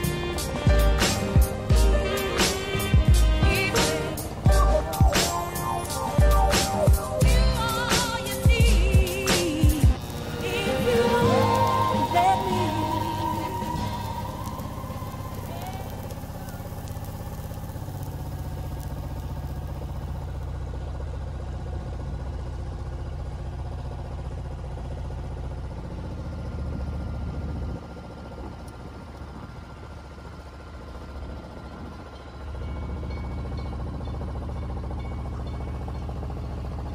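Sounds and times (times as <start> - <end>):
boat engine droning: 0.0 - 36.9.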